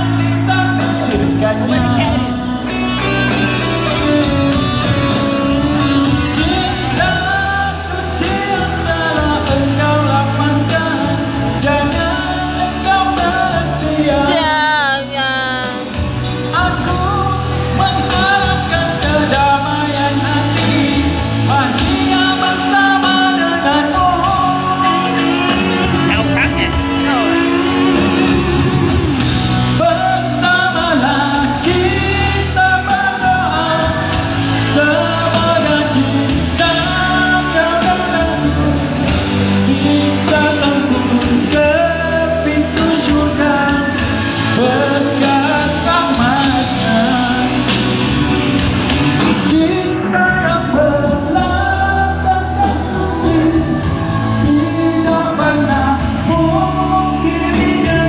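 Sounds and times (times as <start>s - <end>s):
live band with guitar and beat: 0.0s - 58.0s
person singing pop song: 0.0s - 58.0s.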